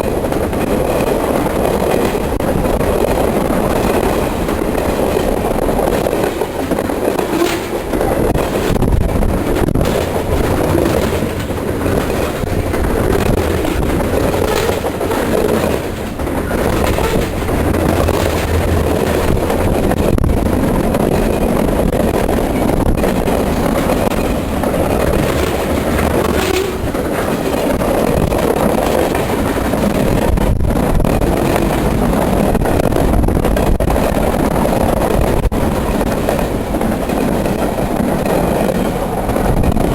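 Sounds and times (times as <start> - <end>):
clicks over rail joints: 0.0 - 39.9
train wheels on rail: 0.0 - 39.9.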